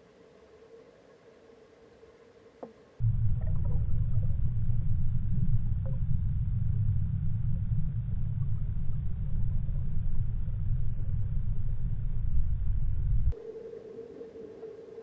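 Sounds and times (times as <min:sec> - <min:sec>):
underwater river current rumble: 0:00.0 - 0:15.0.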